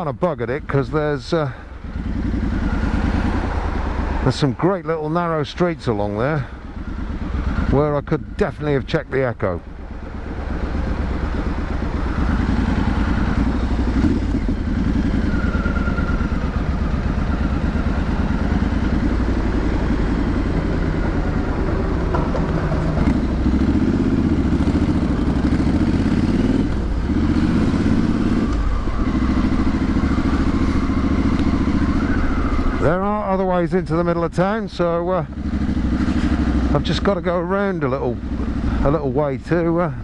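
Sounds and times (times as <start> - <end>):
motorcycle engine and exhaust: 0.0 - 40.0.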